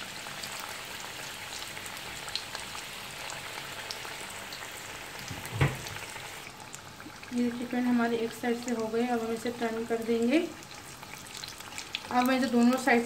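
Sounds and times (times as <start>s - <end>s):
food deep-frying in oil: 0.0s - 13.0s.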